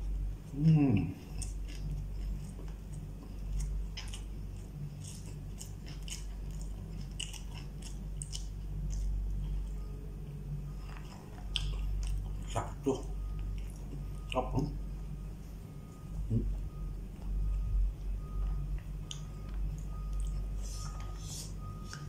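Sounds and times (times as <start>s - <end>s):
person chewing food: 0.0s - 22.0s
steady low hum: 0.0s - 22.0s.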